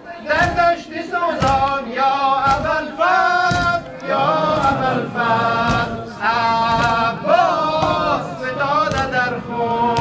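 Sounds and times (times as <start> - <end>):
congregation chanting: 0.0 - 10.0
man singing a lament: 0.0 - 10.0.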